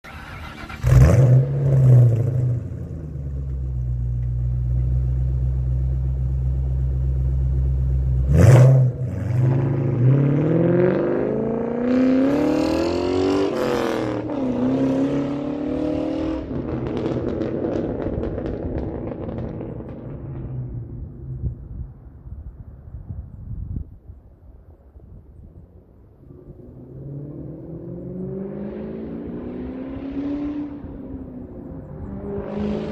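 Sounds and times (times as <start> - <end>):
car engine idling and revving: 0.0 - 21.8, 26.1 - 32.9.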